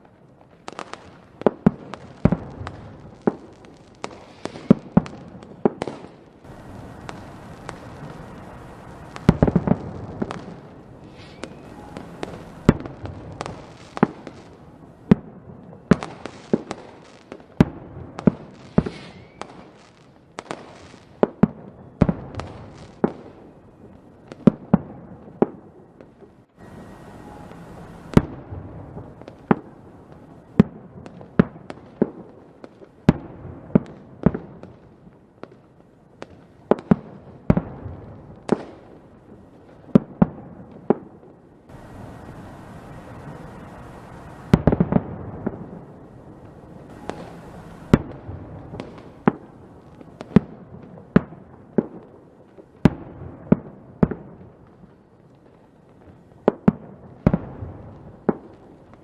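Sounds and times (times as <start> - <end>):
crackling hiss: 0.0 - 59.0
fireworks bangs and pops: 0.0 - 59.0.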